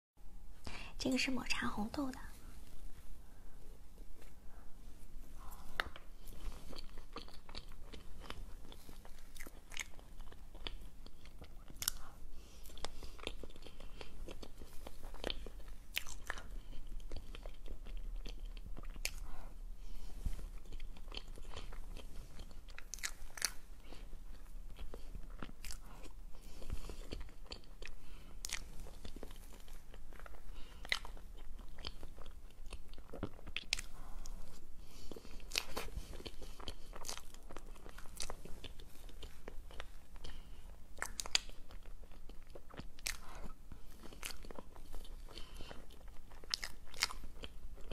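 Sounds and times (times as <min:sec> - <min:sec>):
wet chewing: 0:05.4 - 0:47.9.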